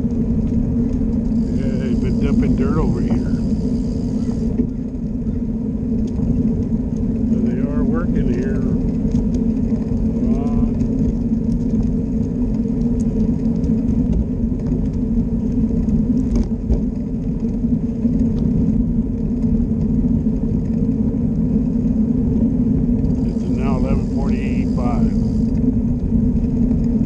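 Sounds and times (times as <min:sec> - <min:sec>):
small vehicle motor humming: 0:00.0 - 0:27.0.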